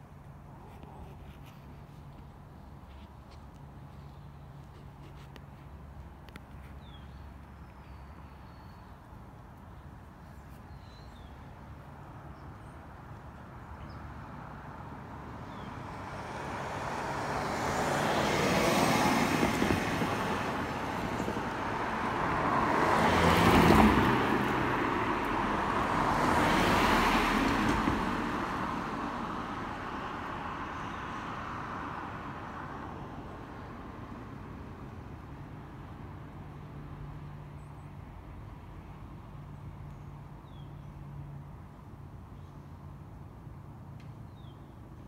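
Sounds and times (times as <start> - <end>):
road vehicles passing: 0.0 - 45.0.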